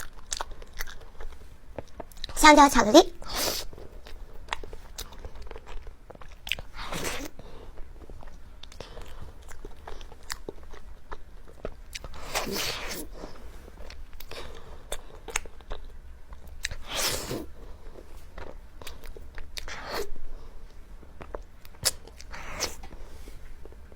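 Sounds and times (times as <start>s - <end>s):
chewing soft cake: 0.0s - 2.4s, 3.1s - 23.9s.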